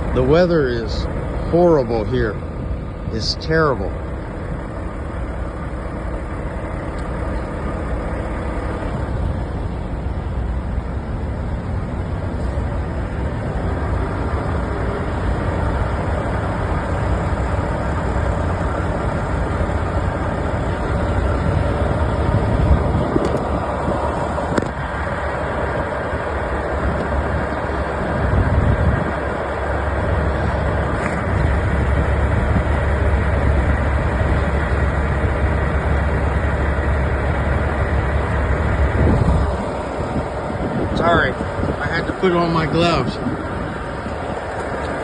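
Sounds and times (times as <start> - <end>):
diesel truck engine idling: 0.0 - 45.0.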